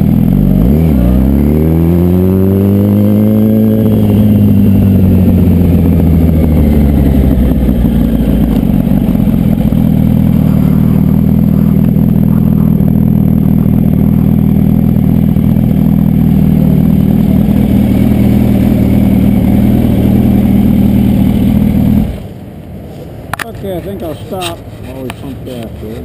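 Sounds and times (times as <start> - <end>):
motorcycle engine idling: 3.5 - 26.0.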